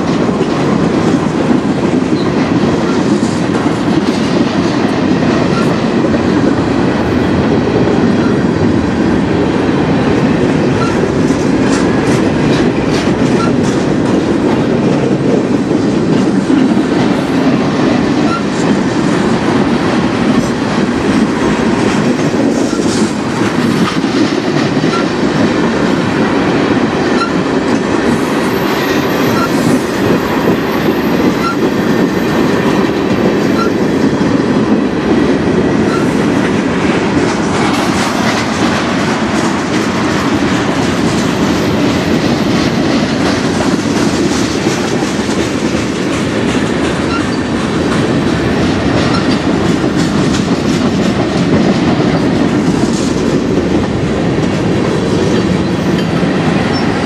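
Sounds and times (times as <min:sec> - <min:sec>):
steel wheels rumbling on rails: 0:00.0 - 0:57.0
train cars clicking and clacking: 0:00.0 - 0:57.0.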